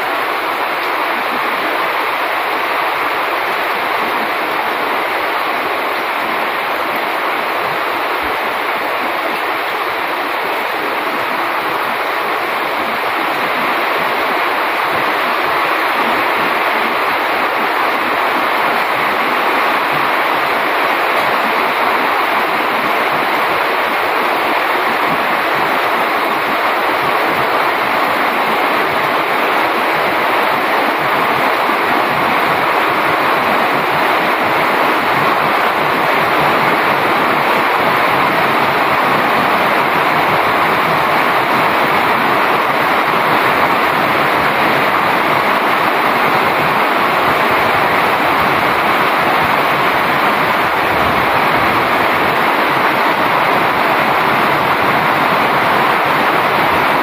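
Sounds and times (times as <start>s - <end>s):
heavy rain on foliage: 0.0s - 57.0s.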